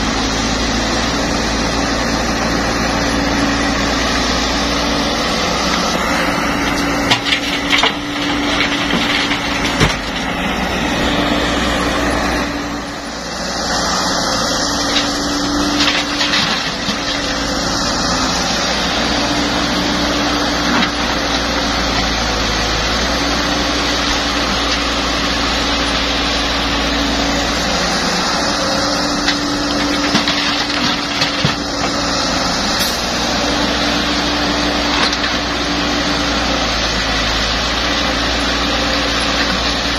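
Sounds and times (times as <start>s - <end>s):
diesel engine running: 0.0s - 39.9s
rock and dirt crunching: 0.8s - 39.9s.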